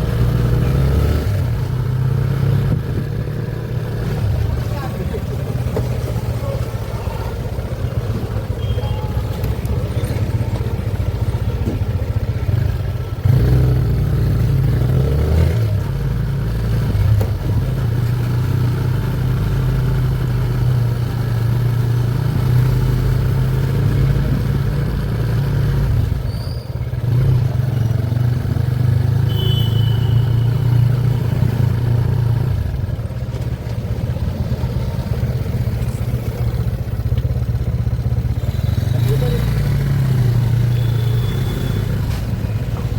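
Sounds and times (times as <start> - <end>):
vehicle engine humming: 0.0 - 42.9.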